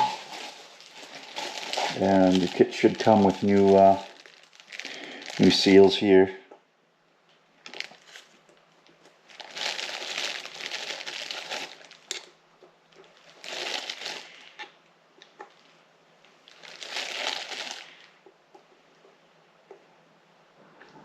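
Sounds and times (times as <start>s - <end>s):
plastic packaging crinkling: 0.0s - 6.2s, 7.6s - 18.3s.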